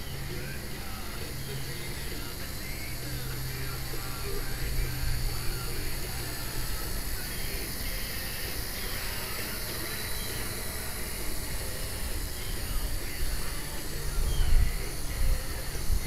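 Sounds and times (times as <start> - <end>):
quadcopter motors whirring: 0.0 - 16.0.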